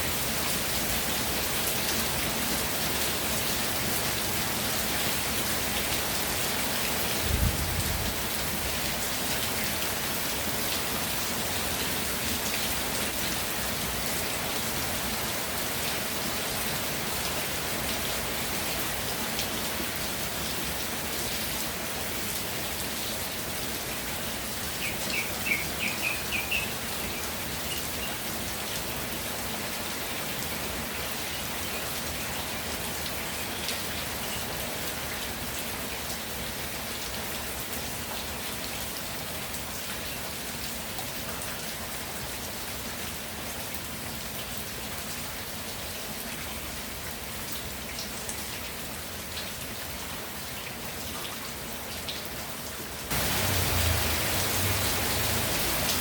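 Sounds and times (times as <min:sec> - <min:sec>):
rain pattering on ground: 0:00.0 - 0:56.0.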